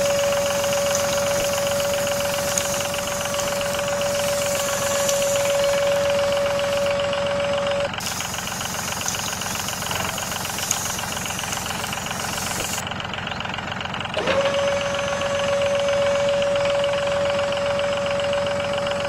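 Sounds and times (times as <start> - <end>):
toy tractor motor rattling: 0.0 - 19.0.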